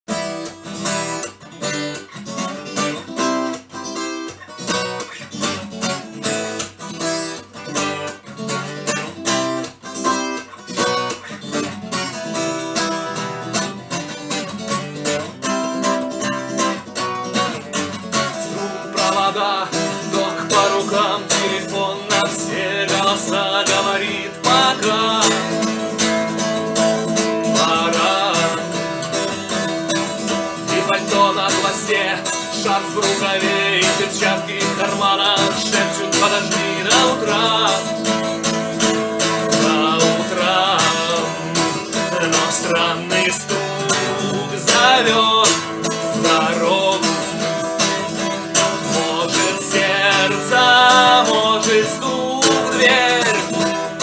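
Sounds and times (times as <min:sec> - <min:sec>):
acoustic guitar playing: 0:00.1 - 0:54.0.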